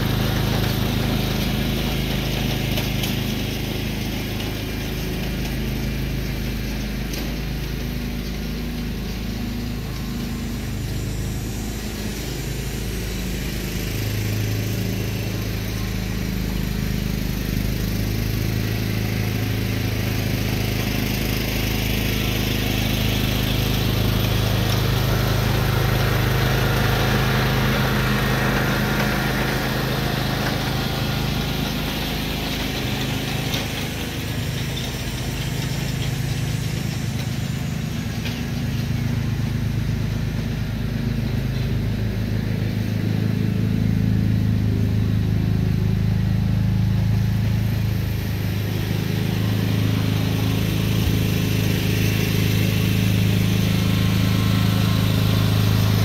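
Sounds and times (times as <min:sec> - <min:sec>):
lawn tractor engine running: 0:00.0 - 0:56.0.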